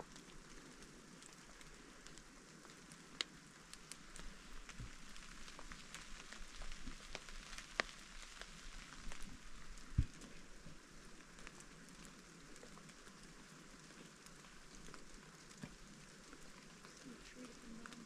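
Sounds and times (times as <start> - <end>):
raindrops ticking: 0.0 - 18.0
steady rain hiss: 0.0 - 18.0.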